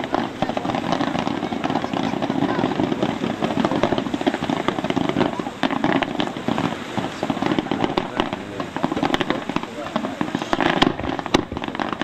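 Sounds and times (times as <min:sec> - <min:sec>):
fireworks bangs: 0:00.0 - 0:12.0
fireworks crackling and popping: 0:00.0 - 0:12.0.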